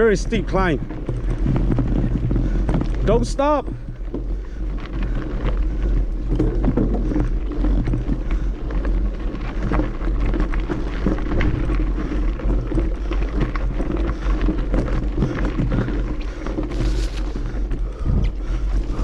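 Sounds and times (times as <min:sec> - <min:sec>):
low microphone rumble: 0:00.0 - 0:19.0
mountain bike rattling over gravel: 0:00.0 - 0:19.0.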